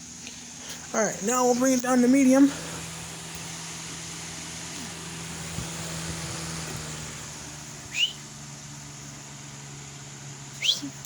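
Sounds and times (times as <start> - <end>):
table fan running: 0.0 - 11.0.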